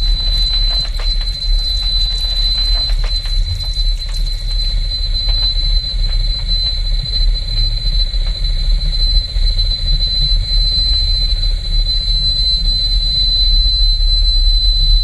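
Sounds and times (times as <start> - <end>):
low rumbling drone: 0.0 - 12.2
high-pitched whine: 0.0 - 15.0.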